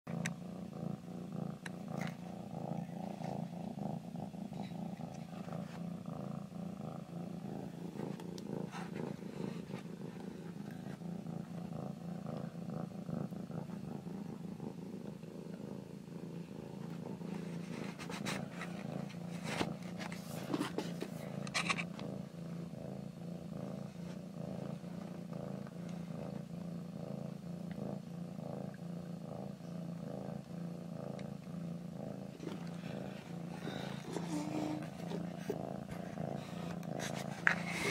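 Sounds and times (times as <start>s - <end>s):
cat purring: 0.0s - 37.9s.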